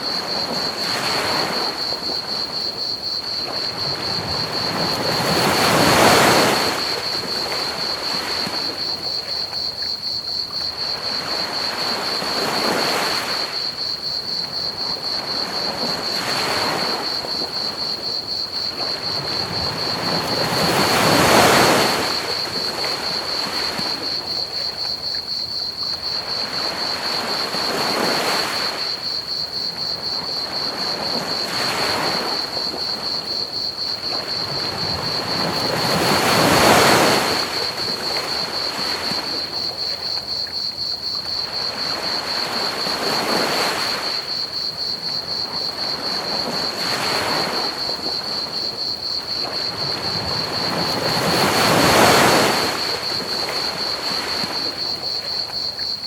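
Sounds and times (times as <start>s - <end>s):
ocean waves breaking on beach: 0.0s - 10.1s, 10.7s - 24.8s, 26.0s - 40.2s, 41.4s - 56.0s
crickets trilling: 0.0s - 56.0s.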